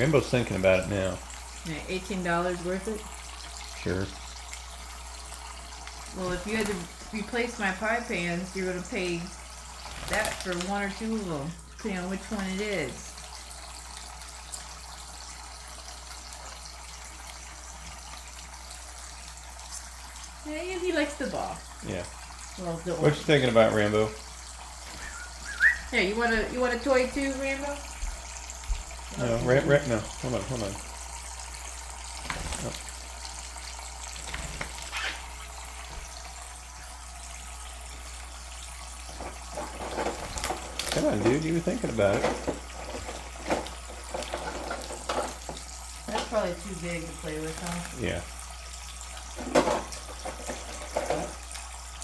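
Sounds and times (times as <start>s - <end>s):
tap water running: 0.0s - 52.0s.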